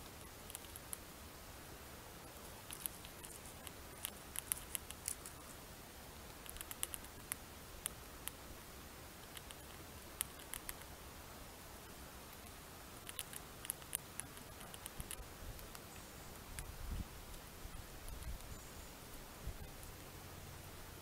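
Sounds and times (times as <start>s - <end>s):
squirrel chewing and cracking food: 0.0s - 1.2s, 2.2s - 11.2s, 11.9s - 20.2s.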